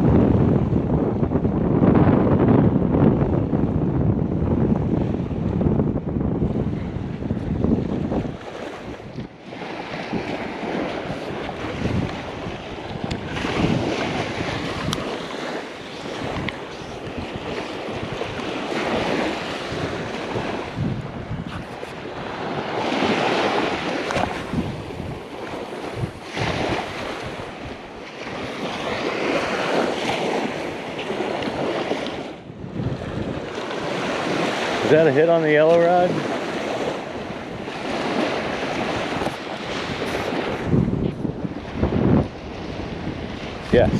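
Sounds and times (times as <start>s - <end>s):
wind buffeting microphone: 0.0s - 43.9s
ocean surf breaking: 6.4s - 43.9s.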